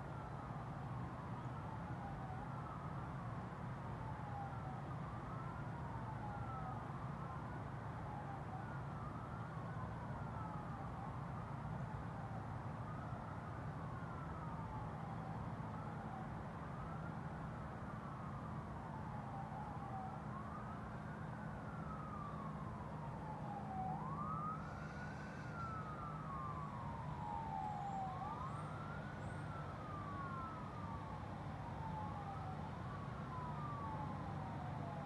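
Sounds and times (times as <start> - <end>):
emergency vehicle siren wailing: 0.1 - 35.0.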